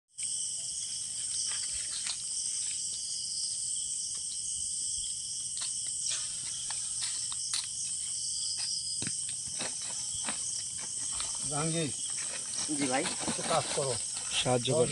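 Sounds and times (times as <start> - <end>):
crickets chirping: 0.1 - 14.9.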